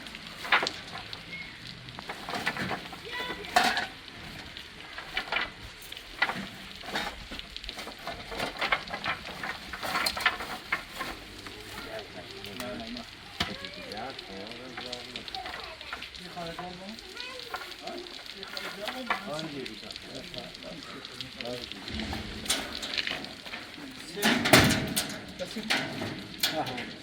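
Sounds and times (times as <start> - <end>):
clattering and scraping: 0.0 - 20.8, 21.4 - 27.0
crackly rustle: 0.0 - 27.0.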